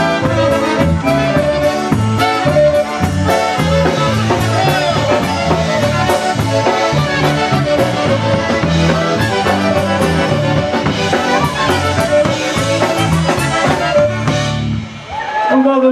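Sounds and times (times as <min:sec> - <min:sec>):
concertina: 0:00.0 - 0:15.9
electric bass: 0:00.0 - 0:15.9.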